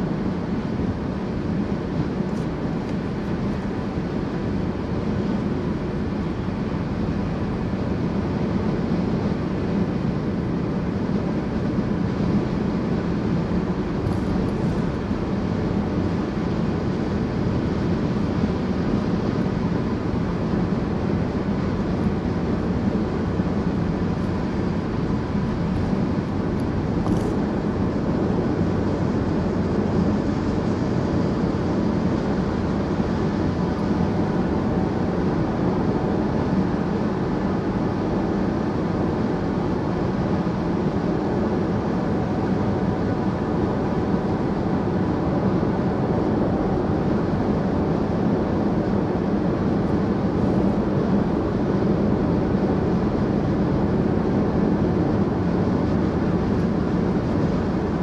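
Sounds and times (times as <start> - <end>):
car road and tyre noise: 0.0 - 58.0.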